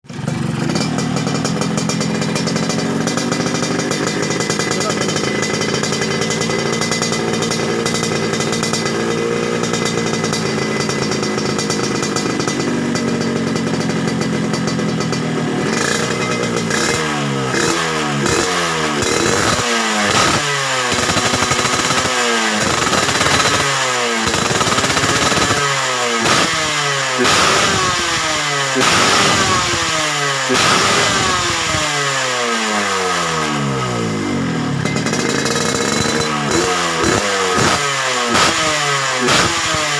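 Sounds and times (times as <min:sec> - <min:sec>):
motorcycle idling and revving: 0:00.0 - 0:39.9.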